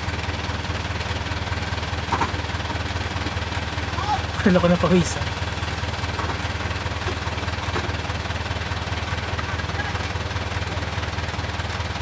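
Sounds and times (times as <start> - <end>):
jeep engine running at low revs: 0.0 - 12.0.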